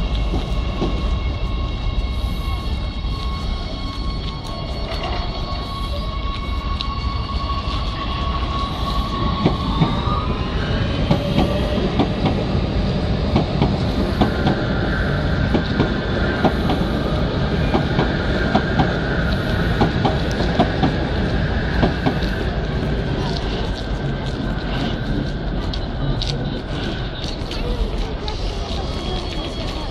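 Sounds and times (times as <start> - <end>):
high electric whine: 0.0 - 24.7
train rumbling past: 0.0 - 29.9.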